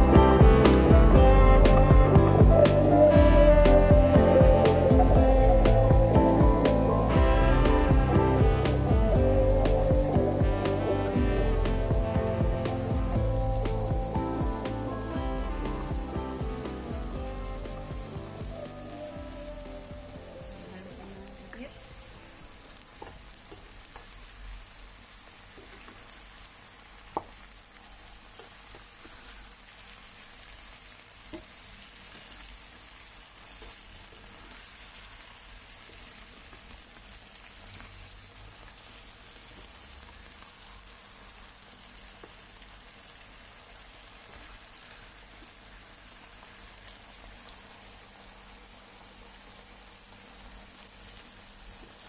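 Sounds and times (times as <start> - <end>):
chicken frying in oil: 0.0 - 52.0.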